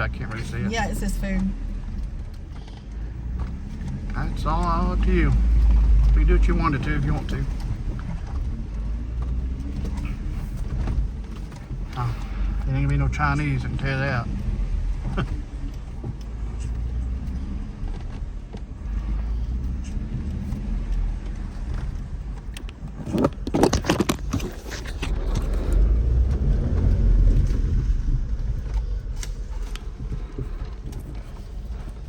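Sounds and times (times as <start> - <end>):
engine and road rumble: 0.0 - 32.0
rattling and clattering: 0.0 - 32.0.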